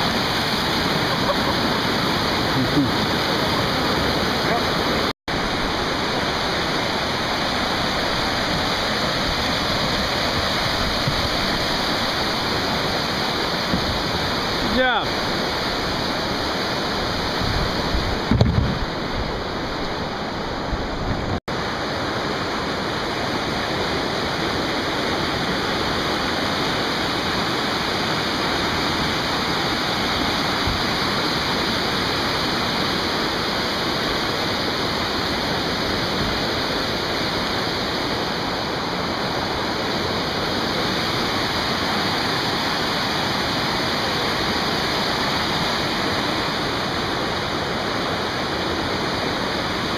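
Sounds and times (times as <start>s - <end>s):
whitewater rapids over rocks: 0.0s - 49.9s.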